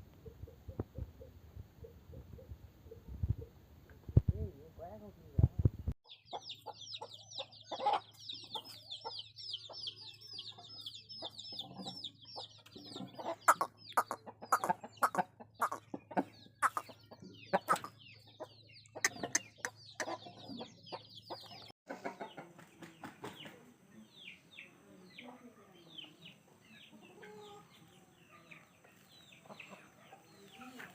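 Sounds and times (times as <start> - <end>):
chickens clucking: 0.0 - 4.4, 5.5 - 30.9.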